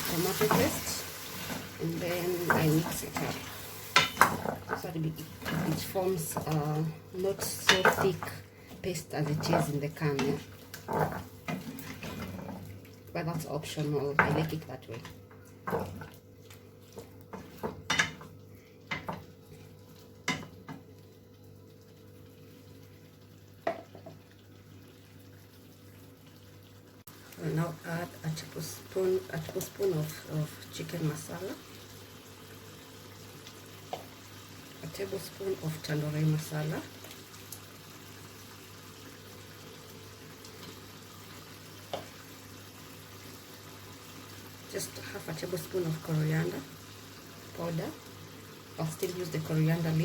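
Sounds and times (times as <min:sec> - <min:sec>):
stew bubbling in a pot: 0:00.0 - 0:50.0.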